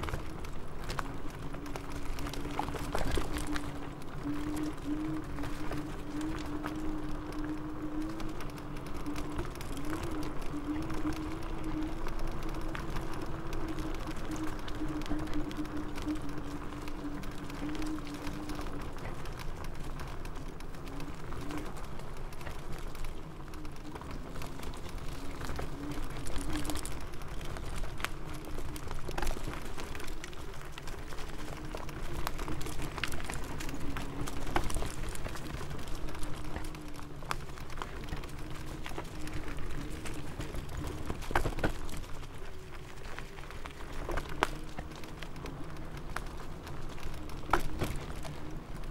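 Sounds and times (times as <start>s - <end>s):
clicks and rattles over bumps: 0.0s - 48.9s.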